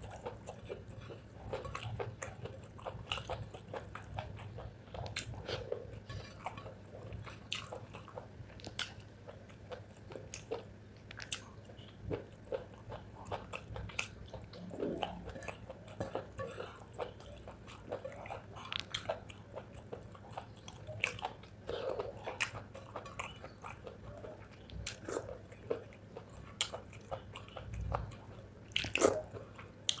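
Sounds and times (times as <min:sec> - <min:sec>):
person chewing: 0:00.0 - 0:30.0.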